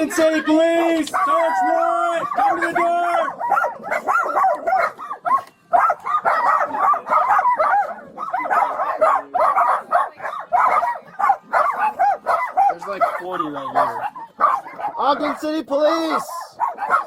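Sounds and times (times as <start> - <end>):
pack of dogs barking and yipping: 0.0 - 17.0.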